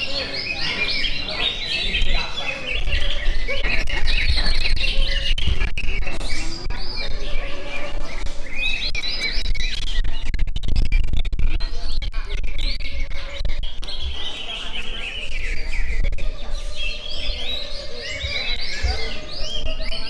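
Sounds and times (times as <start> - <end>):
songbirds chirping and trilling: 0.0 - 10.4, 11.6 - 20.0.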